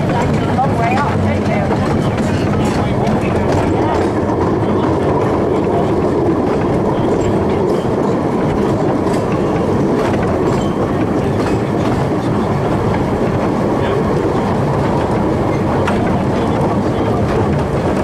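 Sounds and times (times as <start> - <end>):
rail joint clicks: 0.0 - 18.0
wheels rattling on rails: 0.0 - 18.0.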